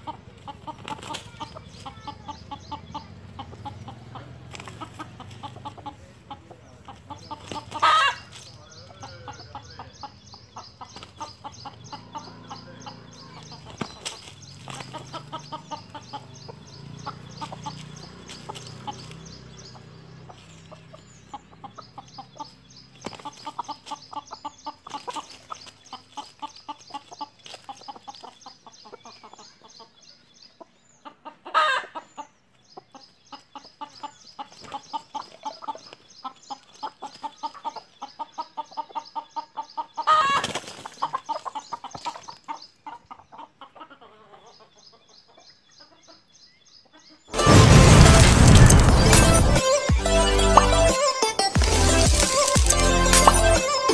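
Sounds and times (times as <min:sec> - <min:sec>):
hens clucking: 0:00.0 - 0:53.9.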